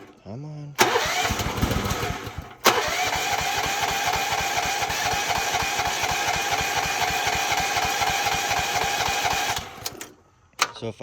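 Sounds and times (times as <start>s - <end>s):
small gasoline engine running: 0.8s - 10.1s.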